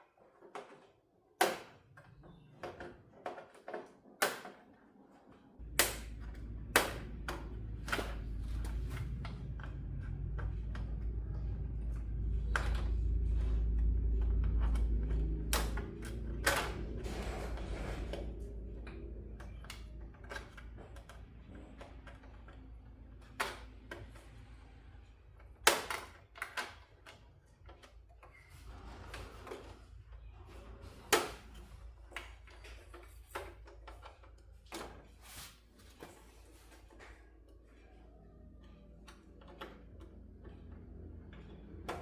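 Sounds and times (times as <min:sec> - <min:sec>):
low steady hum: 0:05.5 - 0:42.0.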